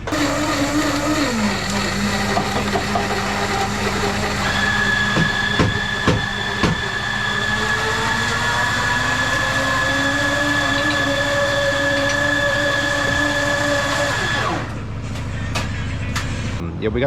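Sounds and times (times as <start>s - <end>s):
blender motor running hard: 0.0s - 14.8s.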